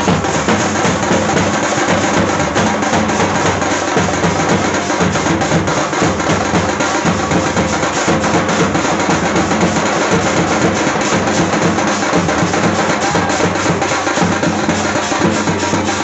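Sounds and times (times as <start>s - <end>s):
loud procession music with drumming: 0.0s - 16.0s.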